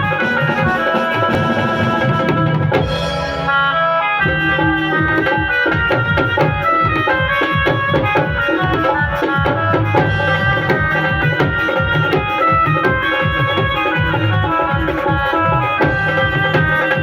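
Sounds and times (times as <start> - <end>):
dhol drumming: 0.0 - 17.0
held melodic reed line: 0.0 - 17.0.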